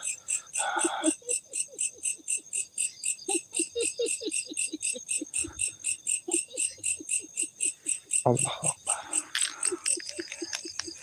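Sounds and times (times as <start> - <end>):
insects chirping rapidly: 0.0 - 11.0.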